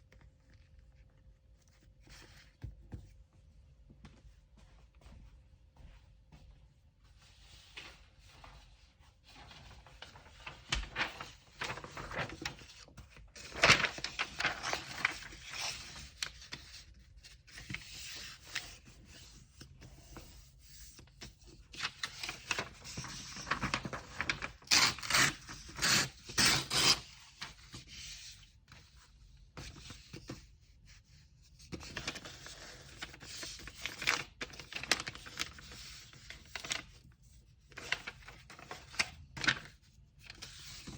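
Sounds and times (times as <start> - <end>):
paper rustling and crinkling: 7.3 - 40.9.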